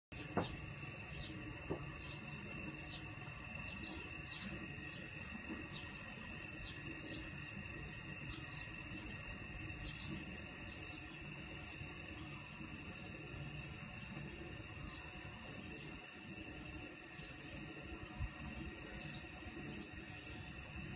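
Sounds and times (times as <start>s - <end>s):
insects droning: 0.1s - 20.9s
bird chirps: 0.2s - 16.2s, 16.8s - 17.6s, 18.4s - 20.9s.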